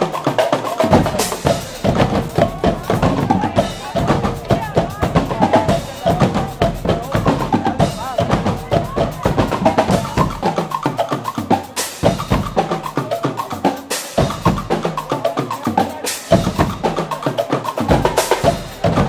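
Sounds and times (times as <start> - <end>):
band playing drums: 0.0 - 19.0
snare and bass drum strokes: 0.0 - 19.0.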